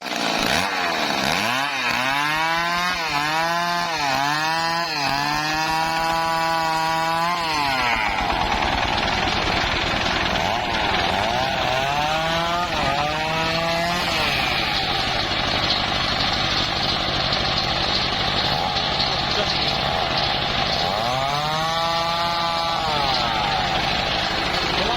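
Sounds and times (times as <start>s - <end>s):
chainsaw cutting wood: 0.0s - 24.9s.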